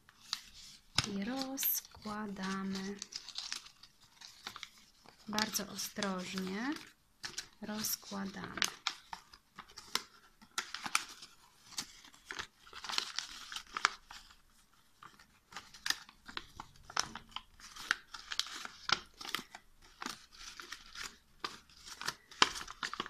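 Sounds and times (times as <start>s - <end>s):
paper crinkling and crackling: 0.0s - 23.0s.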